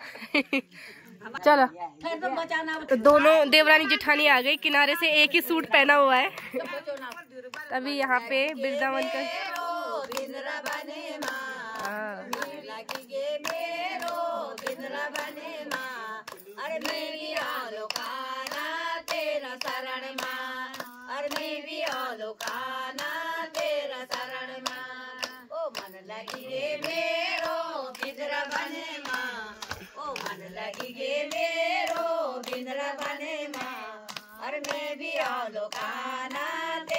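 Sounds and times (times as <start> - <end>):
rhythmic hand-clapping: 2.0 - 36.9
women singing together: 2.0 - 36.9.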